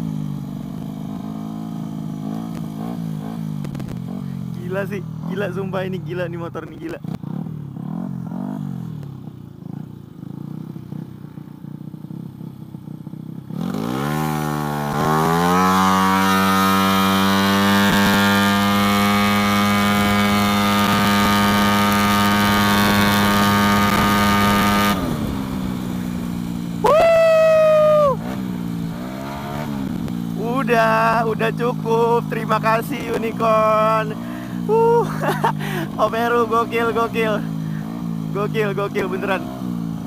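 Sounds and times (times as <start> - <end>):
scooter engine revving: 0.0 - 6.1, 6.8 - 40.0.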